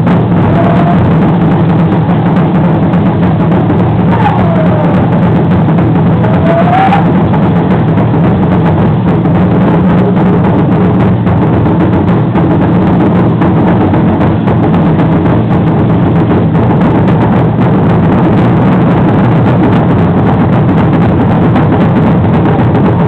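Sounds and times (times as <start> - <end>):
drums beating: 0.0 - 23.0.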